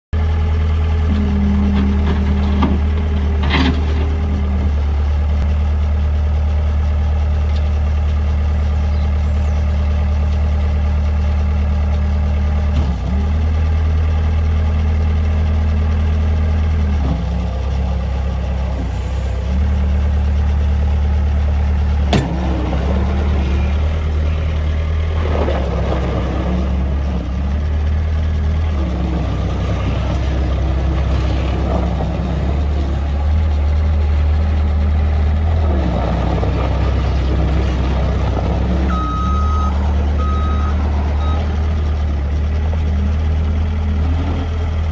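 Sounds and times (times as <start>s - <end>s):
diesel engine running: 0.1s - 44.9s.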